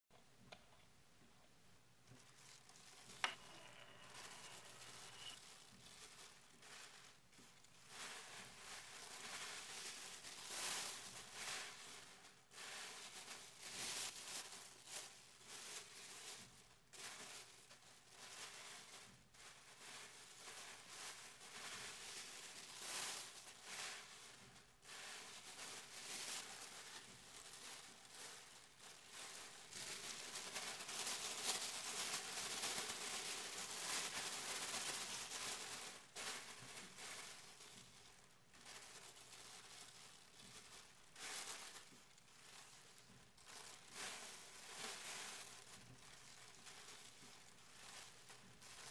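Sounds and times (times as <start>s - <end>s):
plastic bag crinkling: 2.0s - 48.9s.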